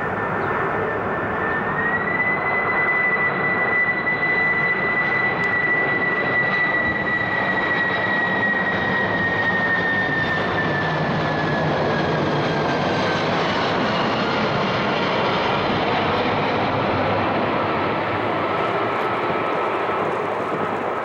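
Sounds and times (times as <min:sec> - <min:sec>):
jet airliner flying past: 0:00.0 - 0:21.0.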